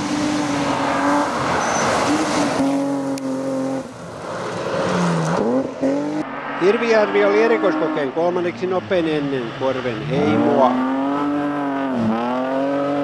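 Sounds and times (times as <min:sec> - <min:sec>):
rally car engines revving: 0:00.0 - 0:13.0.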